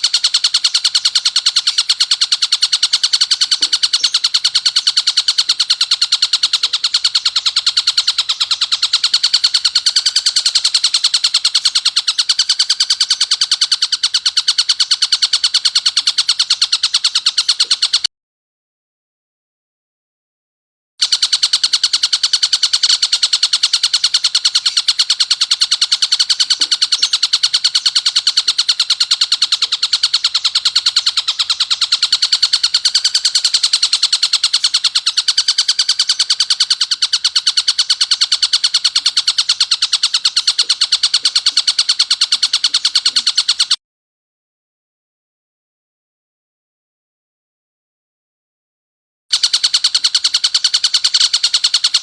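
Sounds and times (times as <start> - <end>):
kingfisher rattling call: 0.0 - 18.1, 21.0 - 43.8, 49.3 - 52.0.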